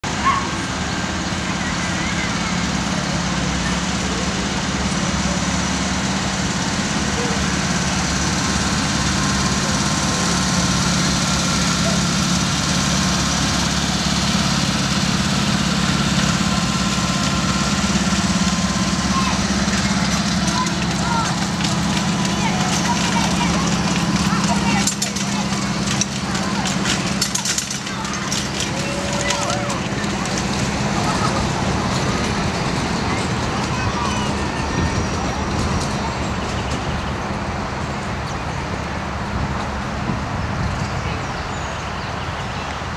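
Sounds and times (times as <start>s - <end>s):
locomotive engine humming: 0.0s - 42.9s
low rumble of vehicle noise: 0.0s - 42.9s.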